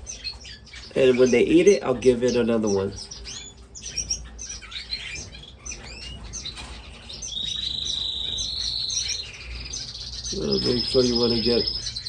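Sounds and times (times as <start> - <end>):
bird trilling: 0.0 - 12.0
finches chirping: 0.0 - 12.0.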